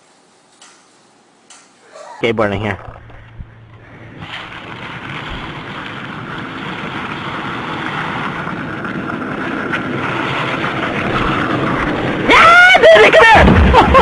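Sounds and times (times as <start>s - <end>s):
skateboard wheels rolling on pavement: 2.6s - 14.0s.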